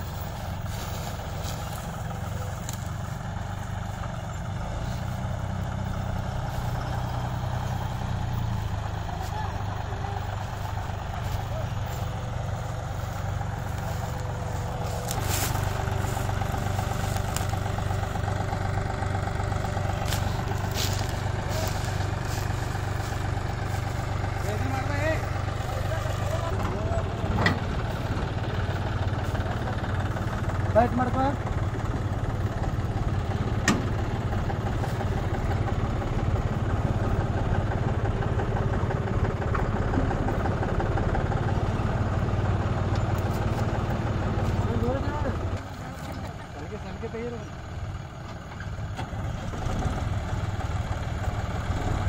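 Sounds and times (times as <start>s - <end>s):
tractor diesel engines running: 0.0s - 52.0s.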